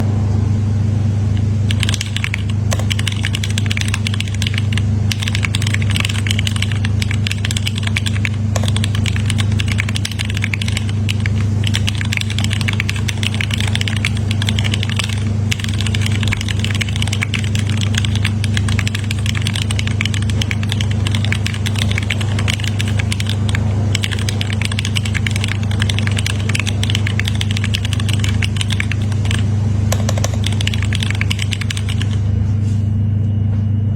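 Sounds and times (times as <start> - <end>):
loud steady low hum: 0.0 - 33.9
fast keyboard typing: 1.4 - 32.2.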